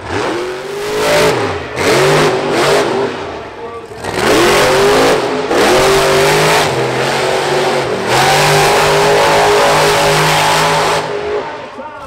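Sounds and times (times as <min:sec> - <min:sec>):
truck engine at high revs: 0:00.0 - 0:11.9.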